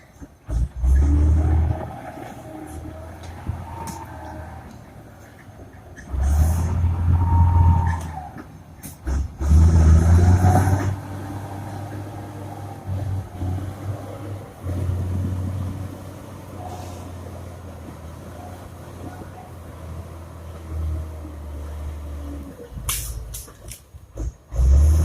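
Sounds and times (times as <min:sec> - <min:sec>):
bulldozer diesel engine under load: 0:00.0 - 0:25.0.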